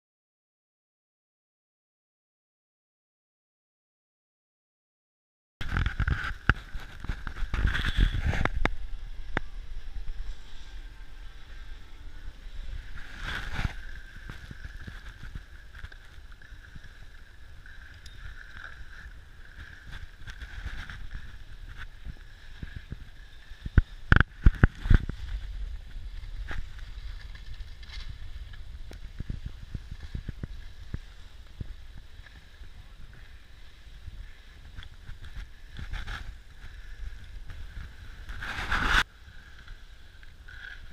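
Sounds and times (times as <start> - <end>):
skis scraping on packed snow: 5.6 - 40.9.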